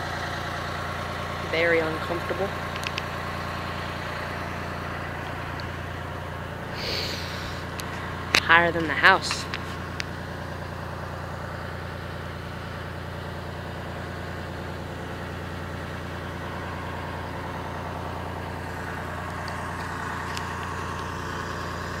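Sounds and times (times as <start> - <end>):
crane engine idling: 0.0 - 22.0.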